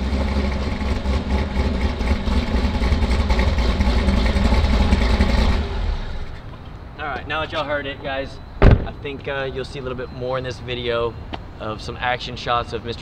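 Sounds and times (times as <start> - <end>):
car engine idling unevenly: 0.0 - 13.0.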